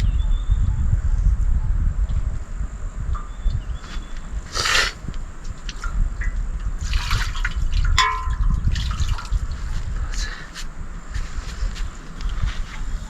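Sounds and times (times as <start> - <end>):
wind rumble on microphone: 0.0 - 13.0
water trickling and splashing: 2.5 - 13.0.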